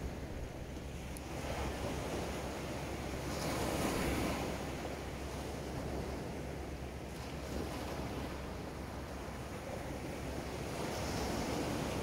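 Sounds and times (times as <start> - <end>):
waves washing onto sand: 0.0 - 12.0.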